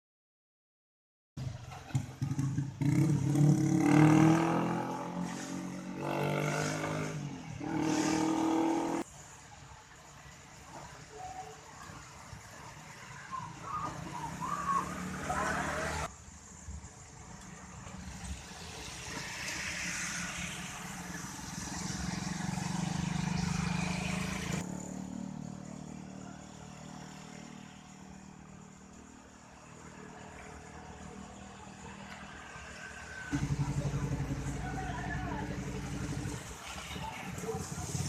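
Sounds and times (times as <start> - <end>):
road traffic passing: 1.4 - 38.0.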